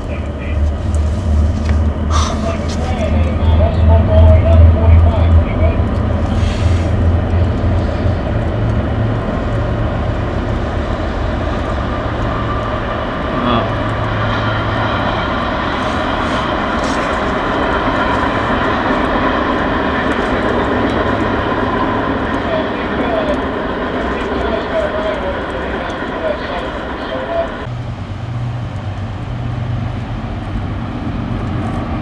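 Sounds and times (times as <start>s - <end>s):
low engine drone: 0.0s - 32.0s
train wheels rumbling: 0.0s - 32.0s.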